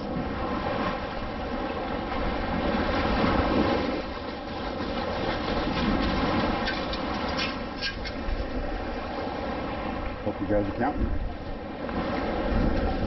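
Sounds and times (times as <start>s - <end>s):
surf washing over sand: 0.0s - 13.0s
wind buffeting microphone: 0.0s - 13.0s.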